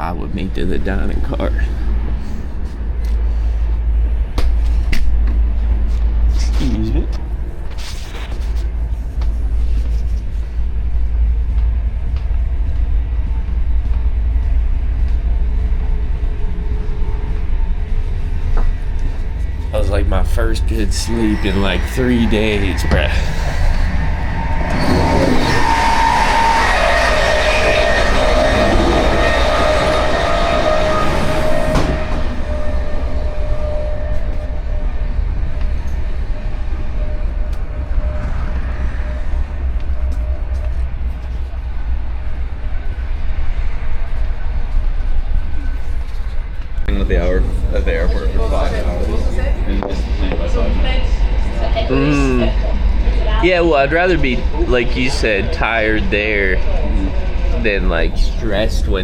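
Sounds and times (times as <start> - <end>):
train wheels rumbling on rails: 8.4 - 59.0.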